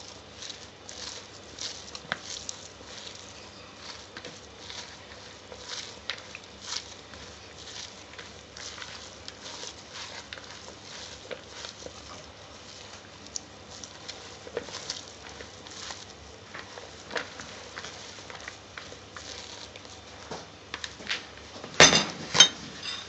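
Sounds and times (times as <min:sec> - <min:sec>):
hand kneading food in plastic bowl: 0:00.0 - 0:22.5.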